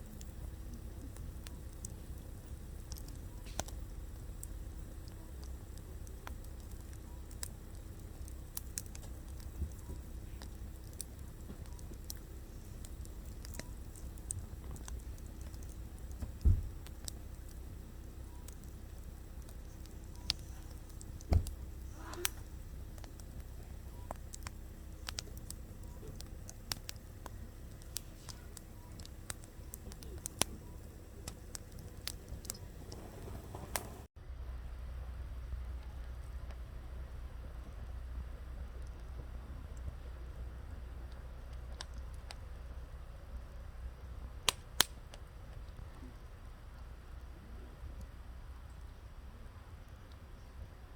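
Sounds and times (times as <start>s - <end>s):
firewood crackling: 0.0s - 34.1s, 35.3s - 50.9s
low steady rumble: 0.0s - 50.9s.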